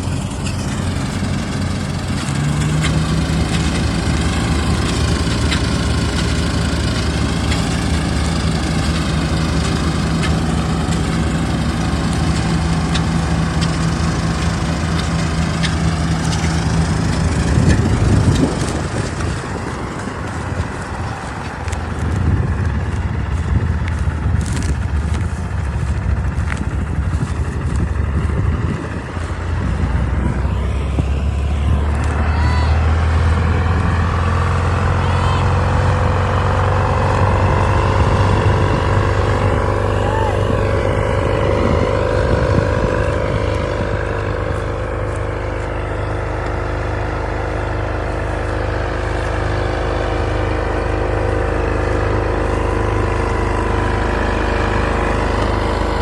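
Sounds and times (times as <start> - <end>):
diesel engine hum: 0.0 - 56.0.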